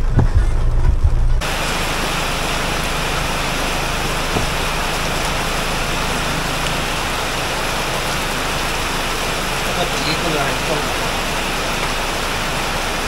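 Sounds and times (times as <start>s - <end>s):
steady rain hiss: 1.4s - 13.0s.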